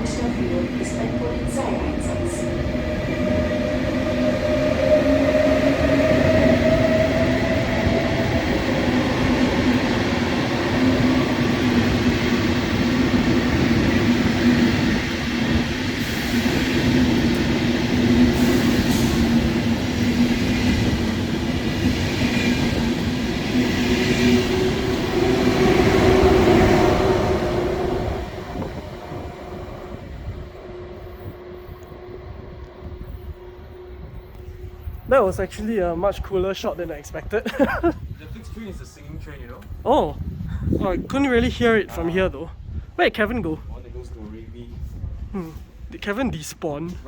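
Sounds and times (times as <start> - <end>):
train running noise: 0.0 - 47.0.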